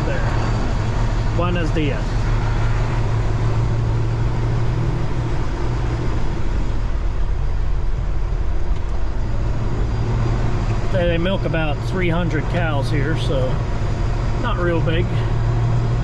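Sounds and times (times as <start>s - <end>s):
road and cab noise: 0.0s - 16.0s
truck diesel engine humming: 0.0s - 16.0s.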